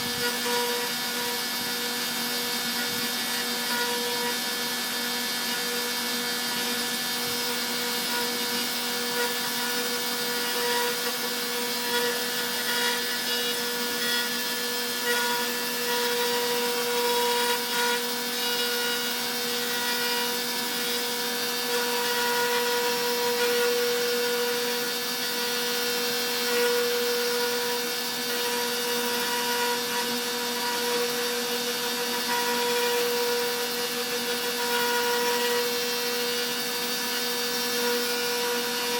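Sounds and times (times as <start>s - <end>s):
bit rasping through wood: 0.0s - 38.9s
router spindle whine: 0.0s - 38.9s.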